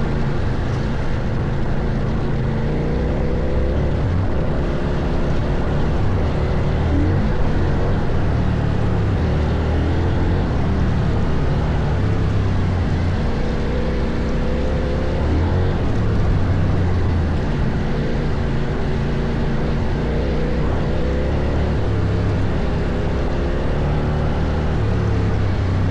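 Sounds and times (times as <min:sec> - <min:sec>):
motorcycle engine revving: 0:00.0 - 0:25.9
steady rushing noise: 0:00.0 - 0:25.9.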